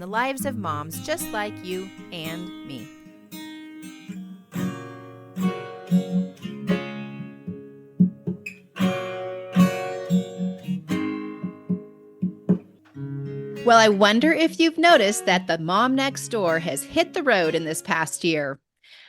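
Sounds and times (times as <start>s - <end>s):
acoustic guitar strumming: 0.0s - 18.4s.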